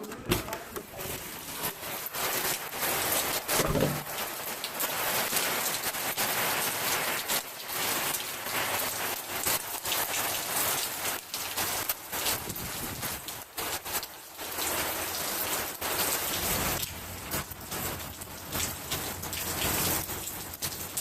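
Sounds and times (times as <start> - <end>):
heavy rain hissing: 0.2 - 20.9.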